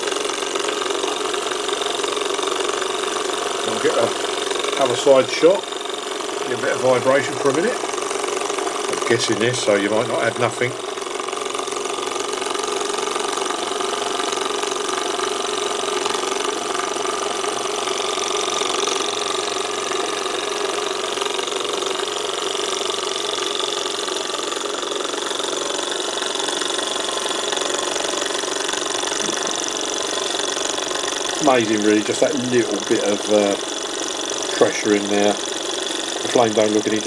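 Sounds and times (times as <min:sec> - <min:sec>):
hot air engine running: 0:00.0 - 0:37.0.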